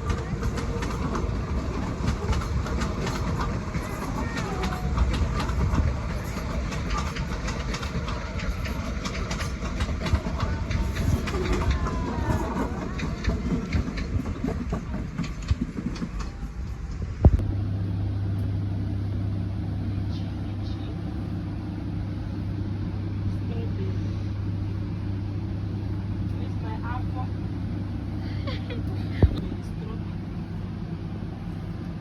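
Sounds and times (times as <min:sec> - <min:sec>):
vehicle rattling ride: 0:00.0 - 0:18.0, 0:18.8 - 0:32.0
low engine hum: 0:00.0 - 0:32.0.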